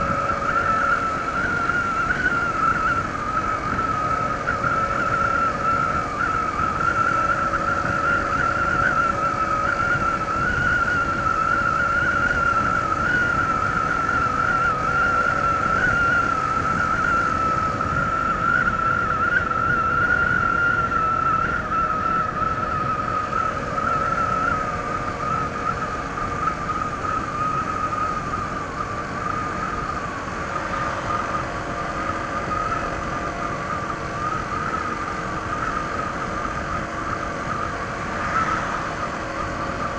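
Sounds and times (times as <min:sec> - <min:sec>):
scooter engine cruising: 0:00.0 - 0:39.9
wind and road noise: 0:00.0 - 0:39.9.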